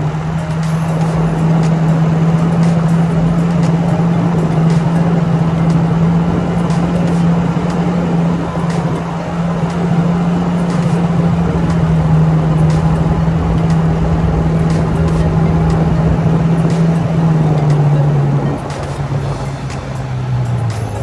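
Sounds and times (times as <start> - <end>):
engine humming steadily: 0.0 - 21.0
loud rushing noise: 0.0 - 21.0.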